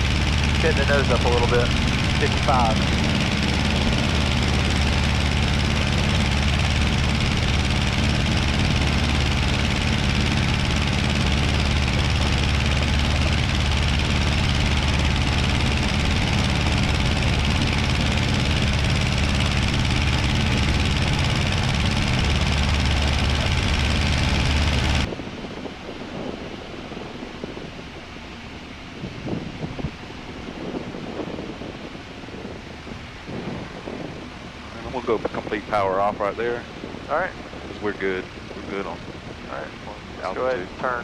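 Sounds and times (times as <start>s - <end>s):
aircraft engine droning: 0.0s - 41.0s.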